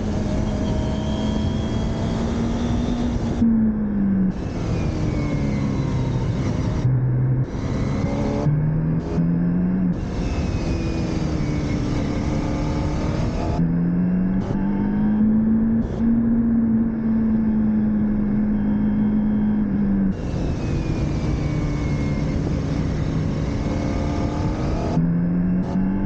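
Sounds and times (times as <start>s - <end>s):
motorcycle engine revving: 0.0s - 26.0s
wind and road noise: 0.0s - 26.0s.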